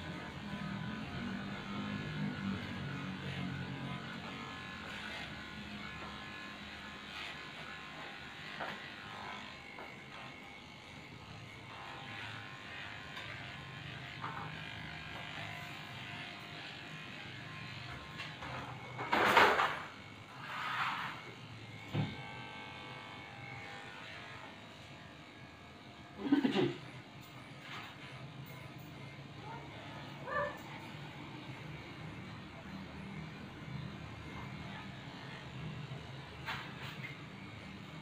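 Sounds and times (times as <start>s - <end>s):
electric clippers running: 0.0s - 38.0s.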